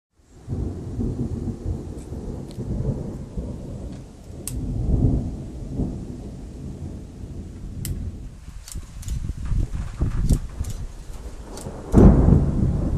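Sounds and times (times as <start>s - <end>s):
rolling thunder: 0.2s - 12.9s.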